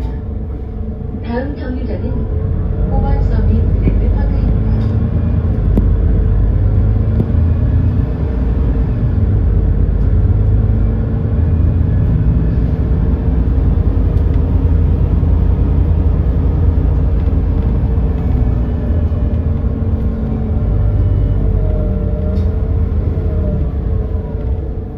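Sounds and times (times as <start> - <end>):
bus engine rumbling: 0.0 - 24.9.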